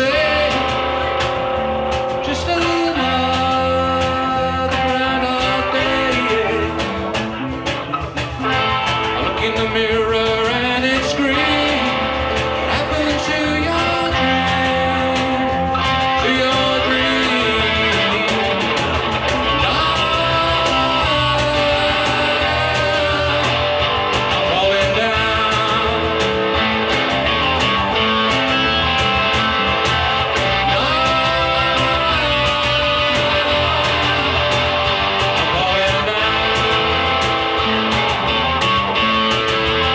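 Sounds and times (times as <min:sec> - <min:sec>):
blues-rock band playing: 0:00.0 - 0:39.9
drums: 0:00.0 - 0:39.9
electric guitar: 0:00.0 - 0:39.9.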